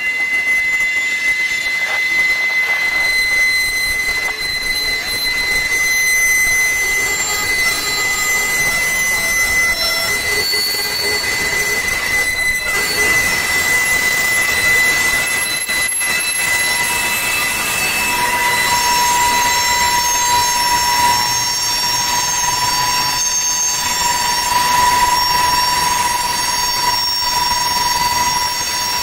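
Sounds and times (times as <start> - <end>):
train wheels squealing: 0.0 - 29.0.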